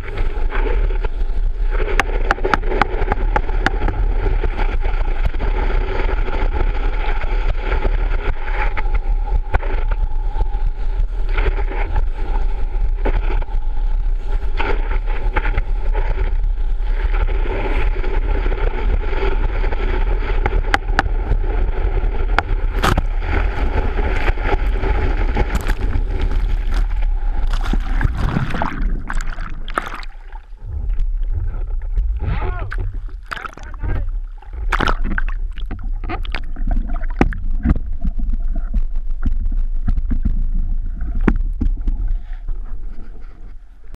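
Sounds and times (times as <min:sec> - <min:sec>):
steady low rumble: 0:00.0 - 0:43.9
water rushing against a ski: 0:00.0 - 0:43.9.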